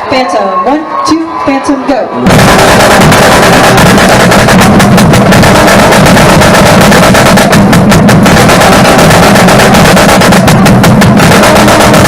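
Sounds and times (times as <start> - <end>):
deep bass drums: 2.3 - 12.0
snare drum strokes: 2.3 - 12.0.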